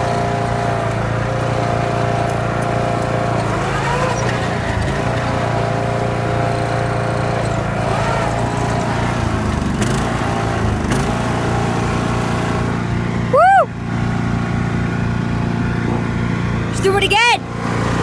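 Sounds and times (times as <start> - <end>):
riding lawn mower engine: 0.0 - 18.0.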